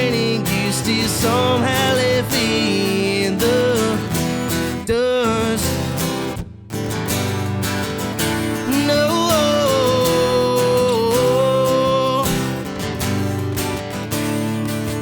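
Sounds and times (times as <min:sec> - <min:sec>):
strummed guitar: 0:00.0 - 0:15.0.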